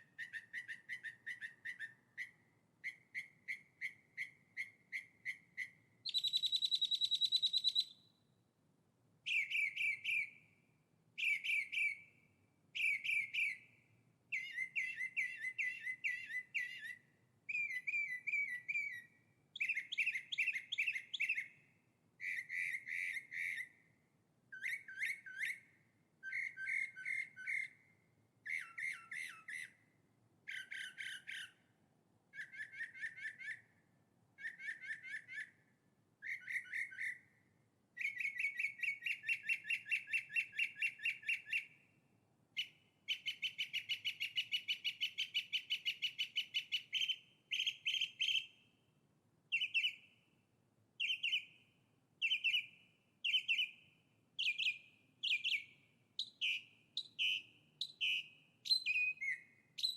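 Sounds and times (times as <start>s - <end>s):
songbird chirping: 0.0s - 8.6s, 9.2s - 50.4s, 51.0s - 59.9s.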